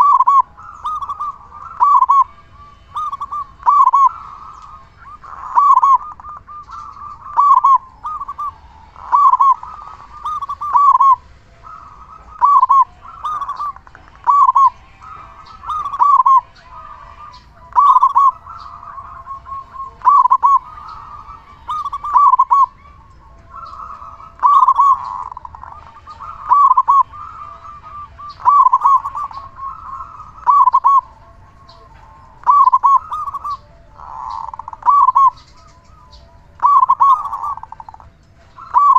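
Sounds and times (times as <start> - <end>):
dove cooing song: 0.0 - 38.9.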